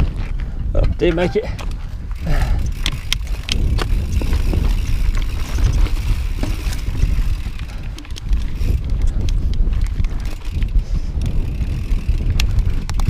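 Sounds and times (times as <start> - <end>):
bike clicks and knocks: 0.0 - 13.0
wind buffeting microphone: 0.0 - 13.0.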